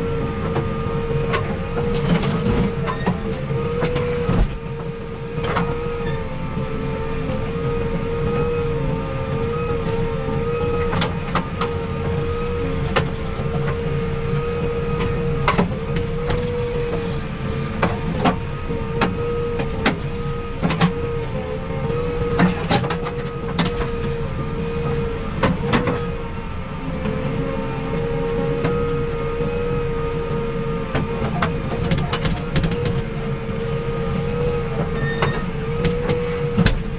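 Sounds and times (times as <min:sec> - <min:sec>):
diesel engine under load: 0:00.0 - 0:36.9.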